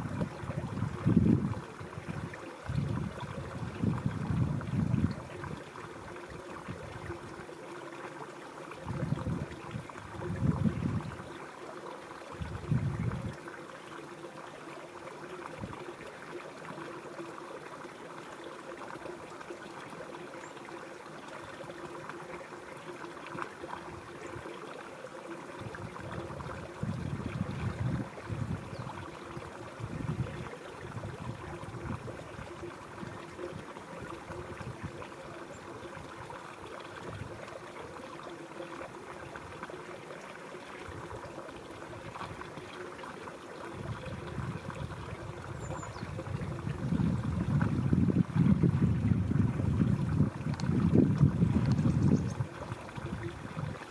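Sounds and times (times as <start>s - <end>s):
river water running: 0.0s - 53.9s.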